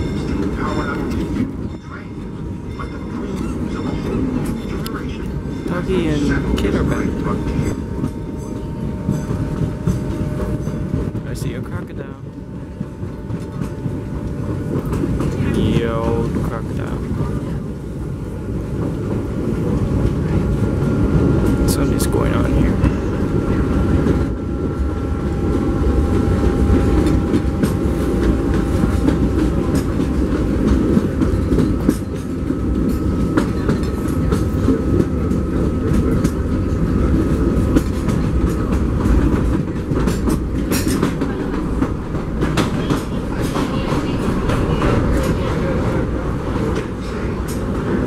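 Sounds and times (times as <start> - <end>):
wheels clickety-clack: 0.0 - 17.9, 18.5 - 24.4, 25.2 - 48.0
train car rumbling on track: 0.0 - 48.0.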